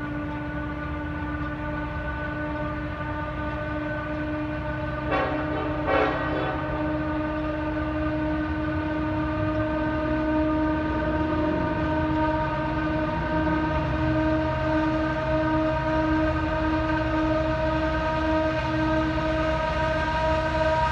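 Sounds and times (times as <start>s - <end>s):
low diesel engine rumble: 0.0s - 20.9s
turbocharger howl: 0.0s - 20.9s.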